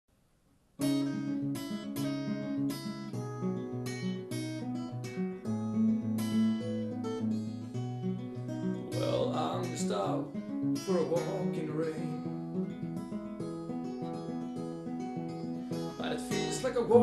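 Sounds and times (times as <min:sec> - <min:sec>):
acoustic guitar chords: 0:00.8 - 0:17.0.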